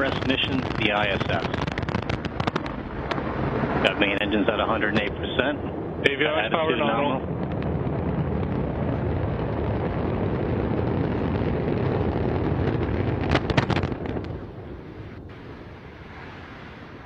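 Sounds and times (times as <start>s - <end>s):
rocket engines roaring: 0.0s - 17.0s
rocket explosion cracks: 0.0s - 17.0s.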